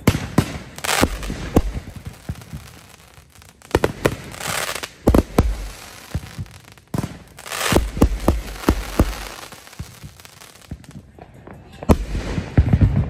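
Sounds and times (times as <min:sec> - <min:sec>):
fireworks crackling hiss: 0:00.0 - 0:11.2
fireworks banging: 0:00.0 - 0:13.0.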